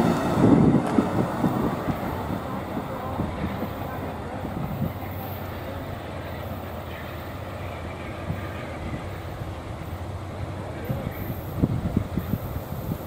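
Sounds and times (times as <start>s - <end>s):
train rumbling and rattling: 0.0s - 13.0s.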